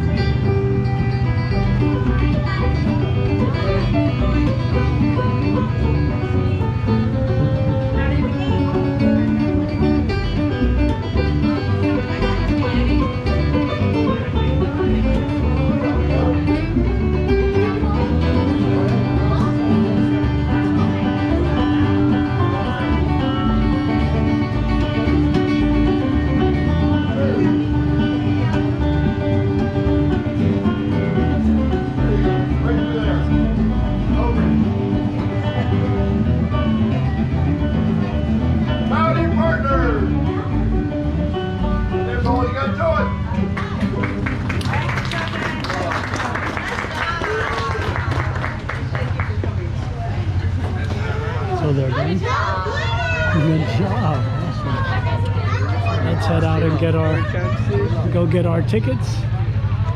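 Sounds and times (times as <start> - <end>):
bluegrass band playing: 0.0 - 59.9.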